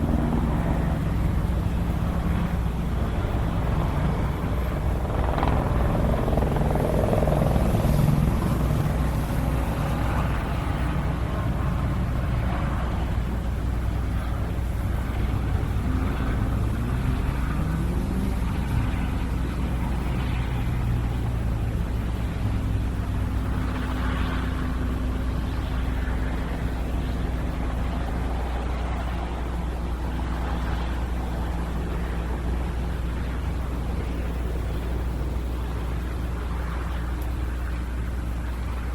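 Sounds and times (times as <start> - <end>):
helicopter deep rumble: 0.0 - 38.9.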